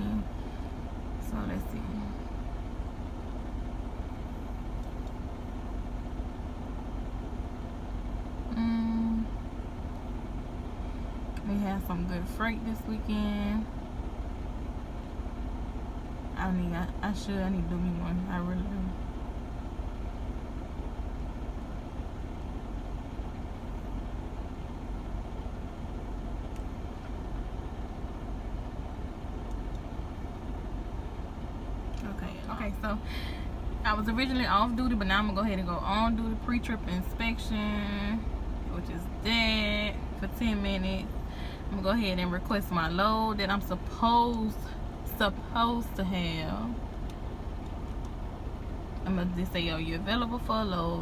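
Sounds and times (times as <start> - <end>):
diesel engine idling: 0.0 - 51.0
faint constant hum: 0.0 - 51.0.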